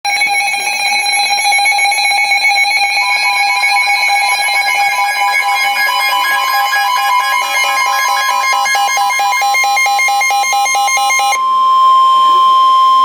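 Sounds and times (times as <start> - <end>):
two-tone electronic alarm: 0.1 - 13.0.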